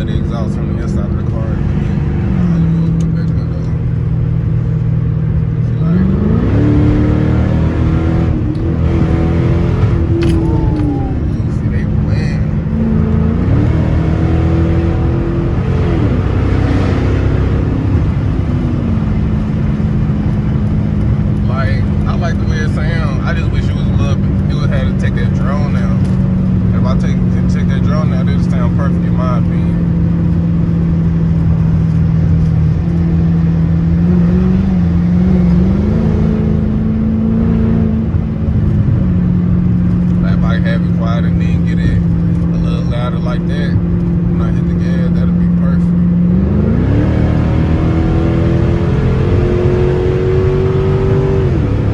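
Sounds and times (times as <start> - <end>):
car engine from inside cabin: 0.0 - 51.9.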